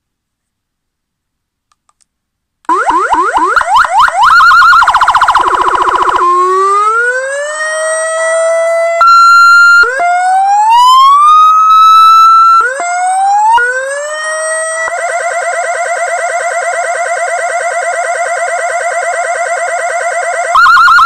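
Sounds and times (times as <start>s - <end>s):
electronic siren warbling and wailing: 2.7s - 21.0s.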